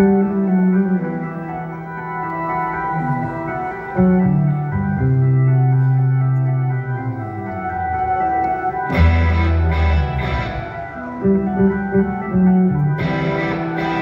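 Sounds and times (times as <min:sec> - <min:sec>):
deep held bass notes: 0:00.0 - 0:14.0
sustained organ chords: 0:00.0 - 0:14.0.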